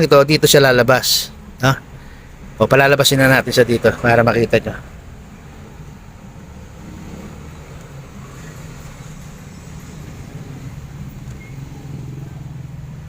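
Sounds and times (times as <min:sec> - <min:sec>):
vehicle engine rumbling: 0:00.4 - 0:13.0.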